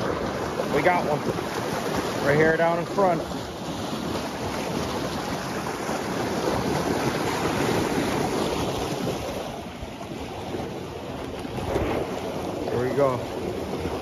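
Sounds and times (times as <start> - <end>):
river water rushing: 0.0 - 14.0
wind on microphone: 0.0 - 14.0.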